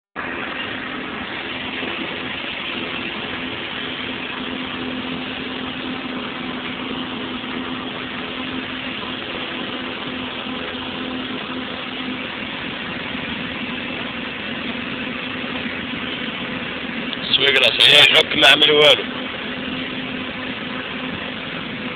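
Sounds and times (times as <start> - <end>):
car engine idling: 0.2 - 21.9.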